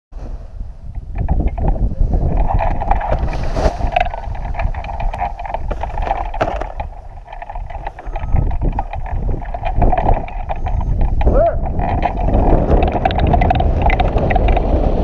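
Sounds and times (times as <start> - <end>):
wind buffeting microphone: 0.2 - 15.0.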